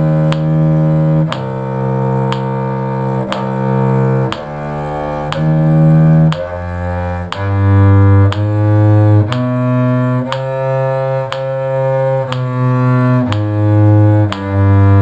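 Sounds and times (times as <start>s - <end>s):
cello playing a scale: 0.0s - 15.0s.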